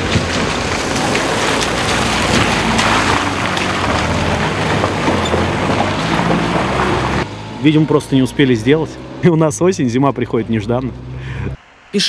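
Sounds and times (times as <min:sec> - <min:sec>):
truck engine running: 0:00.0 - 0:11.8
tyre and road noise: 0:00.0 - 0:12.0.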